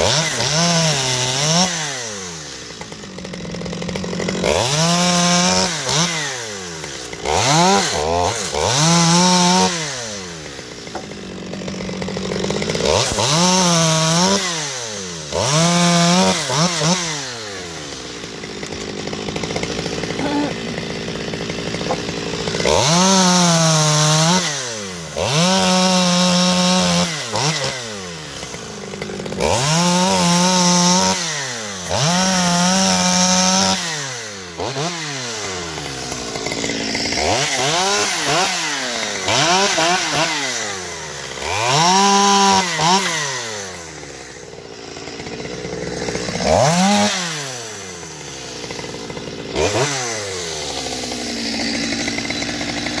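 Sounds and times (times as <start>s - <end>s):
chainsaw revving and idling: 0.0s - 53.0s.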